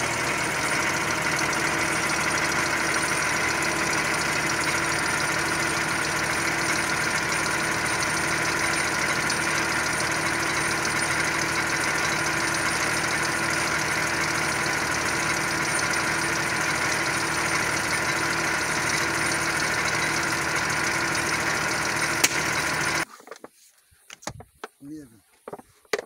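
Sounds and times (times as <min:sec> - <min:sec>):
tractor engine idling: 0:00.0 - 0:23.1.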